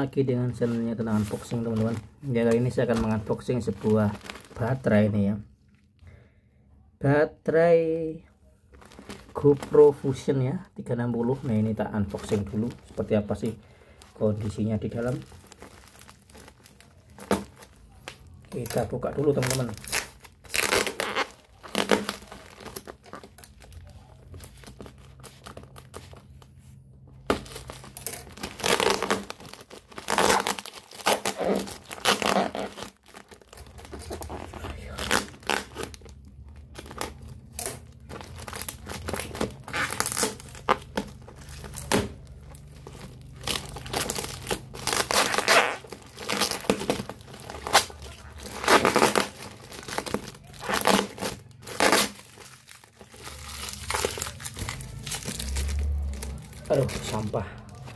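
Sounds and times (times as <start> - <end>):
plastic wrapping crinkling and tearing: 0.0 - 5.4, 8.7 - 57.9.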